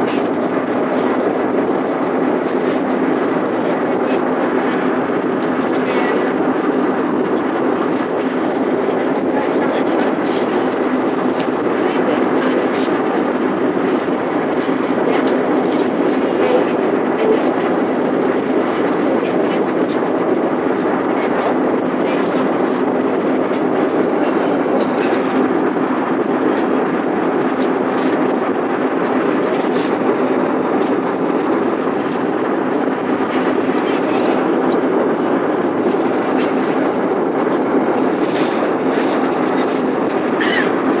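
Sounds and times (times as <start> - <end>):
airliner cabin roar: 0.0 - 41.0.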